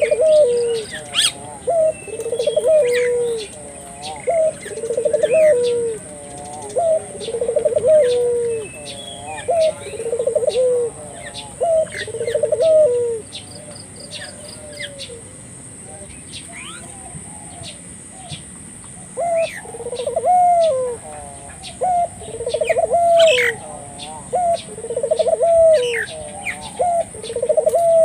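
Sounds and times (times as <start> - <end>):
dove cooing: 0.0 - 18.4, 19.0 - 28.0
small birds chirping: 0.0 - 28.0.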